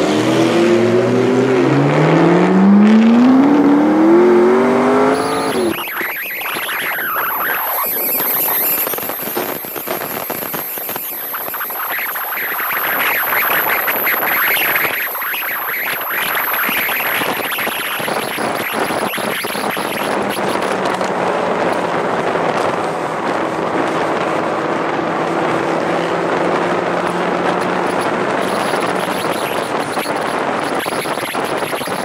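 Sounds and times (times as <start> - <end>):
car engine droning: 0.0 - 32.0
wind and road noise: 0.0 - 32.0.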